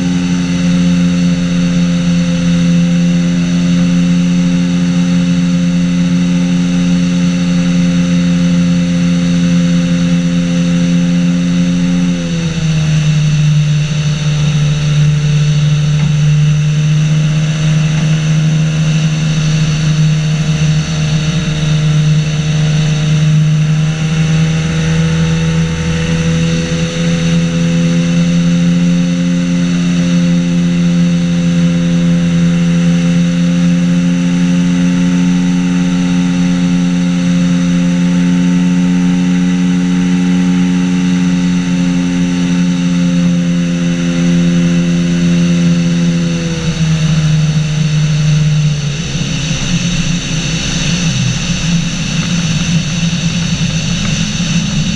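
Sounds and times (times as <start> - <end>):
engine and propeller in flight: 0.0 - 54.9.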